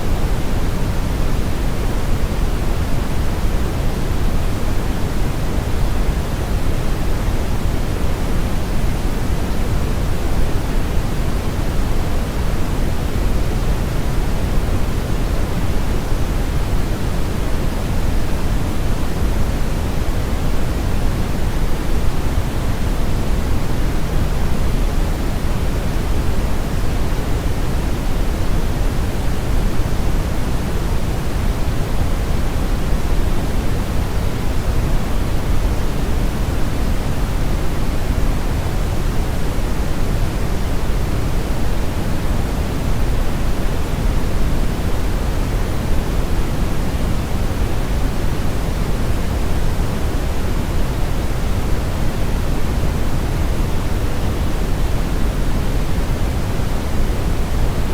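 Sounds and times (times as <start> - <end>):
steady low hiss: 0.0 - 57.9.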